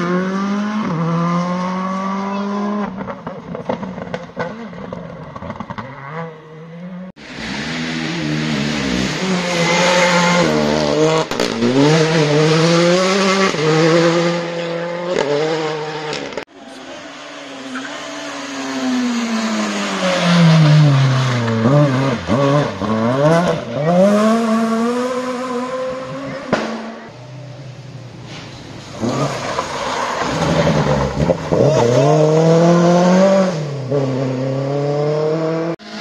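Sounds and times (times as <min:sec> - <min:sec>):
rally car braking and downshifting: 0:00.0 - 0:36.0
rally car engine revving: 0:00.0 - 0:36.0.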